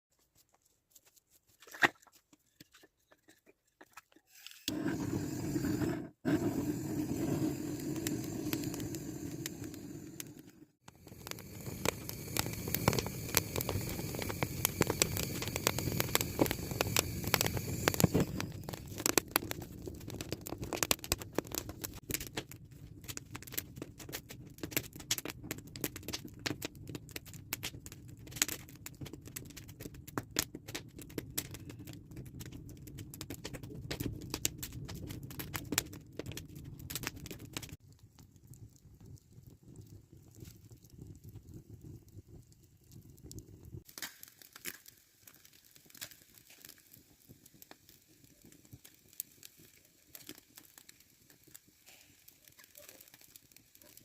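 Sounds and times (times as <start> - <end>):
fire embers crackling and popping: 1.0 - 54.0
low hiss of fire: 4.3 - 54.0.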